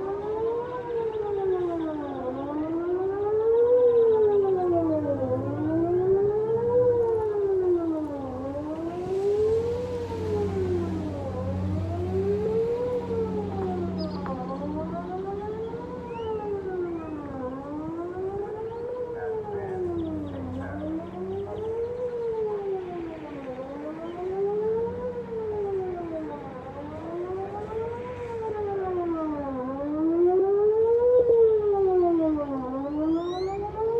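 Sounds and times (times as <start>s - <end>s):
distant warning siren wailing: 0.0s - 33.9s.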